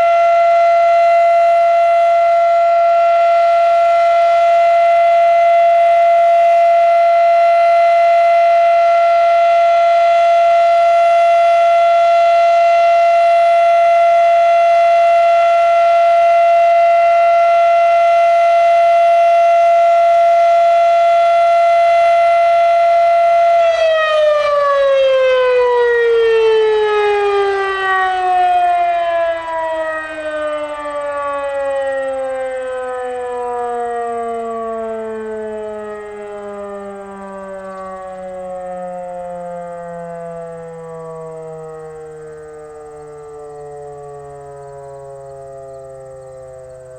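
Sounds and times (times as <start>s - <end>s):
rotary siren tone: 0.0s - 46.9s.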